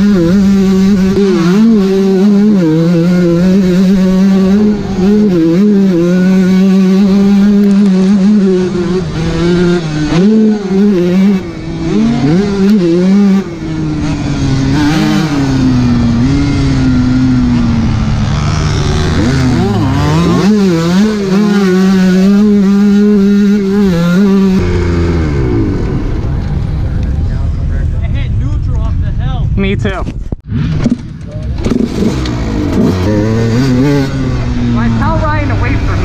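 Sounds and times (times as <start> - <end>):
motocross bike engine revving: 0.0 - 28.3, 30.4 - 36.0.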